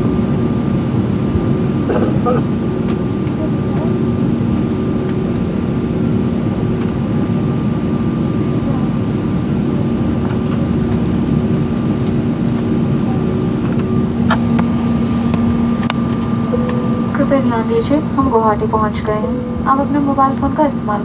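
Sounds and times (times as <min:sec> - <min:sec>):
airliner cabin engine noise: 0:00.0 - 0:21.0.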